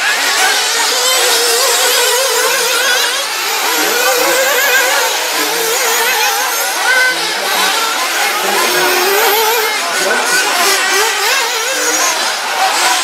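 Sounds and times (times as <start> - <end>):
small engines whining: 0.0 - 13.0.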